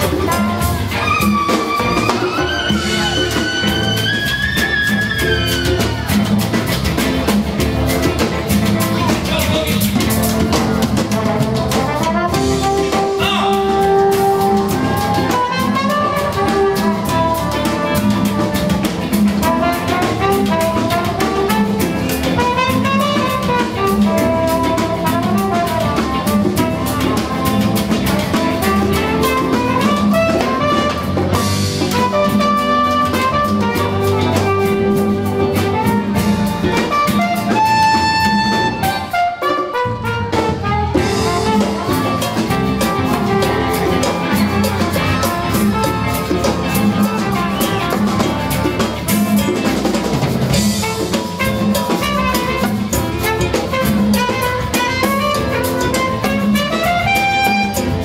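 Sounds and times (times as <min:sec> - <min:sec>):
trumpet melody: 0:00.0 - 0:06.5, 0:07.5 - 0:58.0
drum kit and rhythm section: 0:00.0 - 0:58.0.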